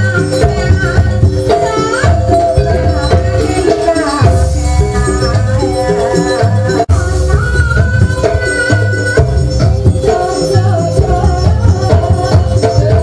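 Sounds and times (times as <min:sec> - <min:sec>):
drums and tuned percussion: 0:00.0 - 0:13.0
wavering melody: 0:00.0 - 0:13.0.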